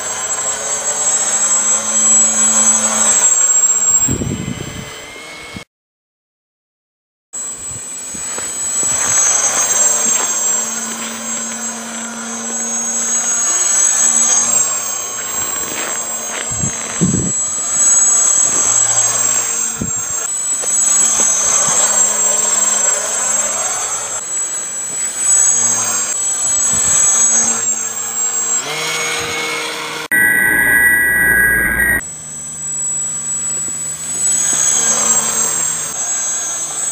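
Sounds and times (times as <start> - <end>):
model airplane motor whine: 0.0 - 5.7, 7.4 - 36.9.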